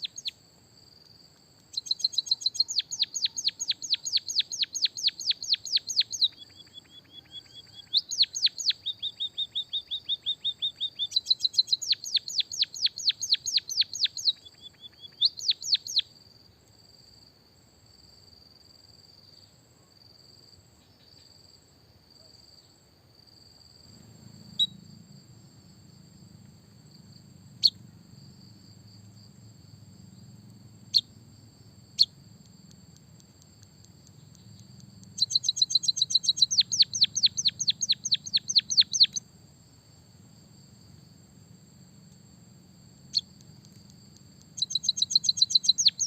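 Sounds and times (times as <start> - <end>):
songbird chirps and trill: 0.0 - 46.0.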